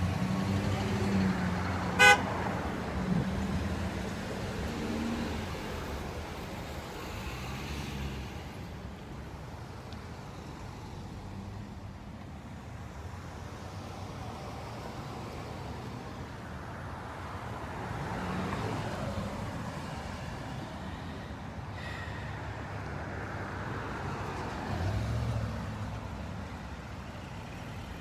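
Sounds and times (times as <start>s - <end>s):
traffic driving past: 0.0s - 28.0s.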